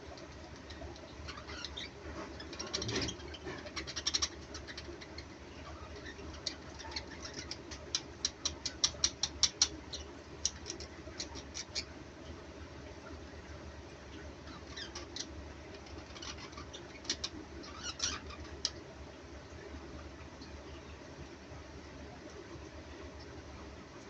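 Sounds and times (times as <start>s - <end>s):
small birds chirping and clicking: 0.0s - 13.4s, 14.0s - 21.0s
steady low hum: 0.0s - 24.0s.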